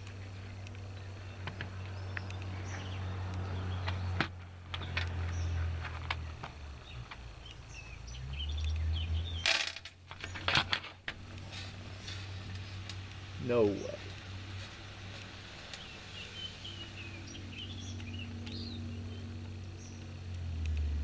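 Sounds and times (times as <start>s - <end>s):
birds chirping: 0.0s - 21.0s
steady low hum: 0.0s - 21.0s.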